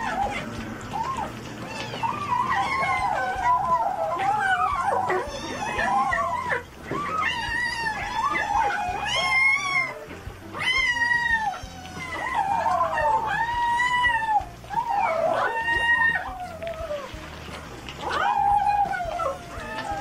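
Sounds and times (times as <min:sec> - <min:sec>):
kittens mewing: 0:00.0 - 0:20.0.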